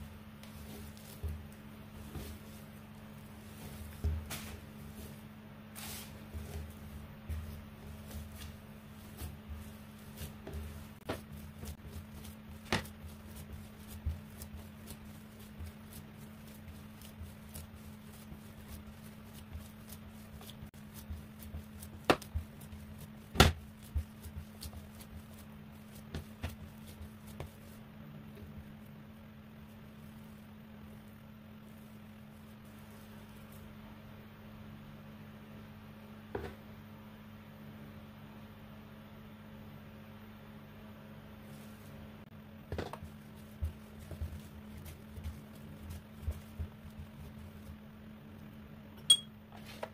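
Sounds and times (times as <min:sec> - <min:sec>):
hands kneading dough: 0:00.0 - 0:34.5, 0:41.2 - 0:49.0
steady low hum: 0:00.0 - 0:49.9.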